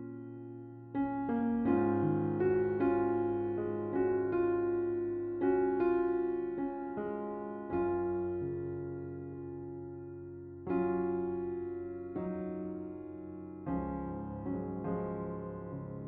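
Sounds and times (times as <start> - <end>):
electric piano melody: 0.0 - 16.0.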